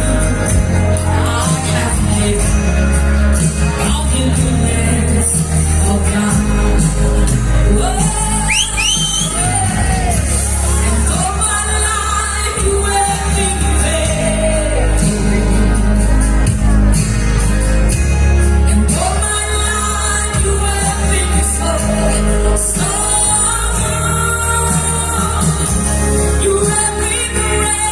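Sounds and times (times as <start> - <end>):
amplified music with heavy bass: 0.0 - 27.9.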